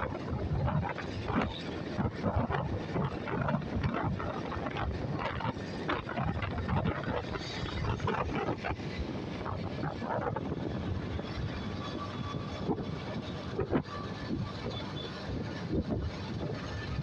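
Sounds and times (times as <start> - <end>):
wind buffeting microphone: 0.0 - 17.0
road traffic rushing: 0.1 - 17.0.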